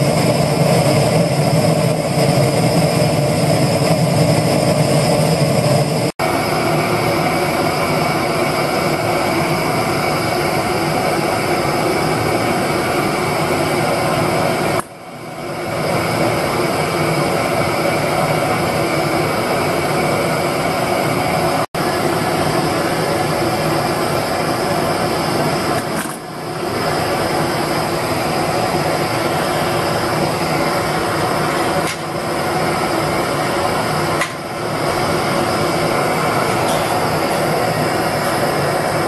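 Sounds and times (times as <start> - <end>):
torch flame rushing: 0.0 - 39.0.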